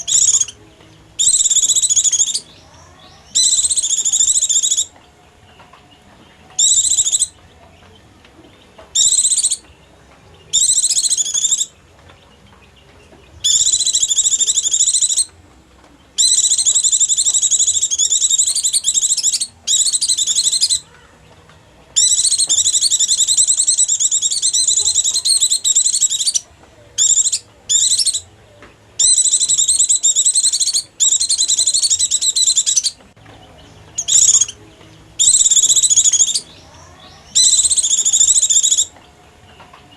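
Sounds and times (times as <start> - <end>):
bird twittering song: 0.0 - 28.3, 29.0 - 39.9.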